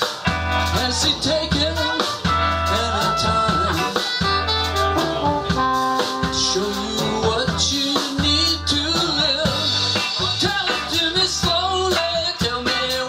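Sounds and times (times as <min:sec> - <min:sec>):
drum beat: 0:00.0 - 0:13.0
live band playing: 0:00.0 - 0:13.0
steady bass line: 0:00.0 - 0:13.0.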